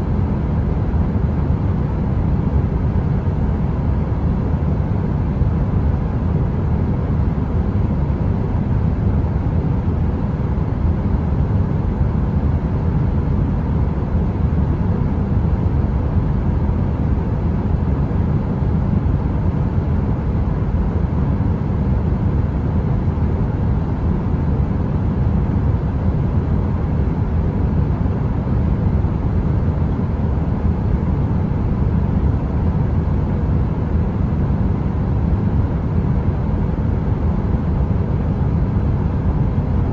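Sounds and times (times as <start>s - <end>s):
faint hum: 0.0s - 39.9s.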